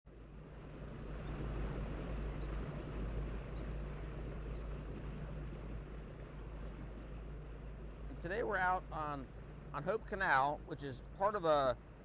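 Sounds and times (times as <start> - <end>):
boat motor rumbling: 0.1 - 12.0.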